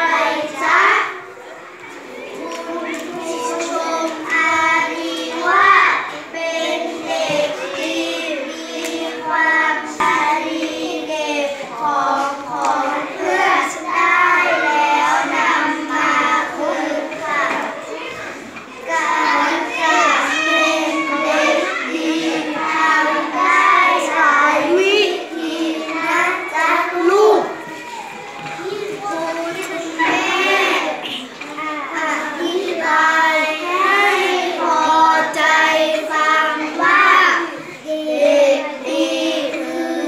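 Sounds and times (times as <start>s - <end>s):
children chanting together: 0.0s - 40.0s.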